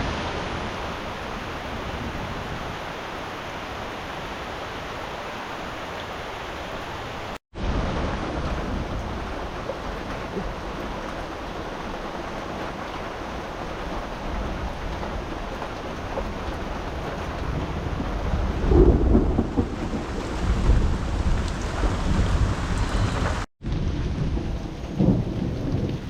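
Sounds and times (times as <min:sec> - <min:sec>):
rain hissing: 0:00.0 - 0:07.8, 0:08.4 - 0:23.5.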